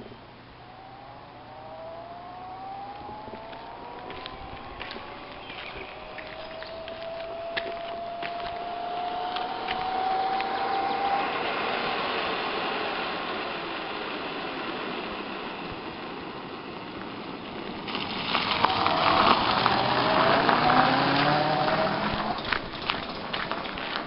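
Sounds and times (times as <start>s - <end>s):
electric moped motor whining: 0.6s - 16.3s, 17.9s - 22.6s.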